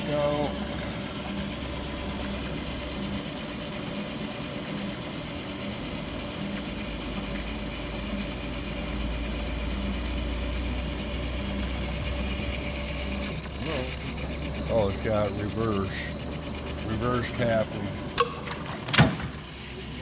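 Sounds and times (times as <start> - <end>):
drill press motor humming: 0.0 - 20.0.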